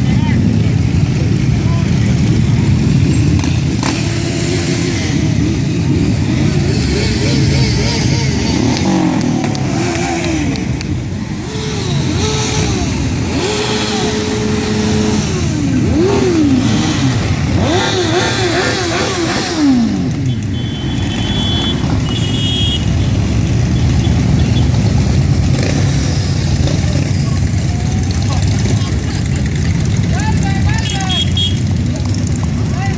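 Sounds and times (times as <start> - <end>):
motorcycle engines revving: 0.0 - 32.9.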